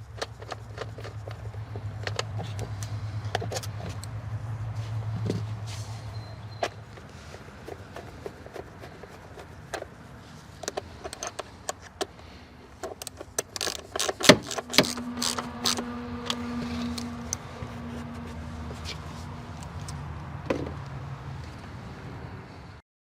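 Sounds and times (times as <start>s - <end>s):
sharp clicks and light knocks: 0.0s - 4.2s, 6.5s - 21.6s
steady low hum: 0.0s - 21.4s.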